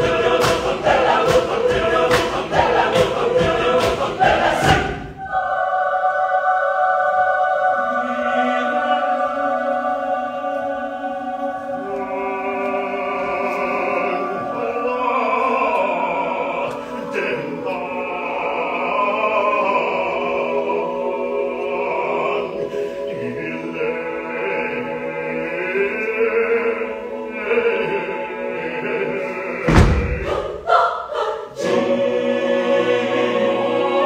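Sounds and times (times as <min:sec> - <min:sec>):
mixed choir singing chords: 0:00.0 - 0:34.0.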